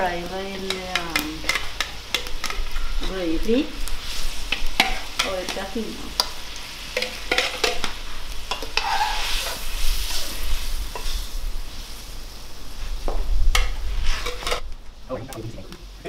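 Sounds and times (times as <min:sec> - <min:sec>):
sizzling hiss: 0:00.0 - 0:16.0.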